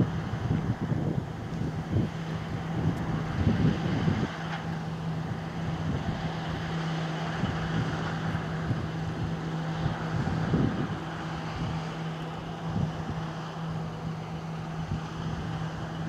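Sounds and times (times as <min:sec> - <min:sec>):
diesel engine running: 0:00.0 - 0:16.0
wind buffeting microphone: 0:00.0 - 0:16.0.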